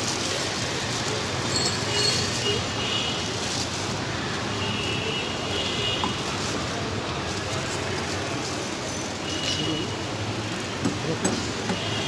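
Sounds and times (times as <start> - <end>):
passing vehicles: 0.0 - 12.0.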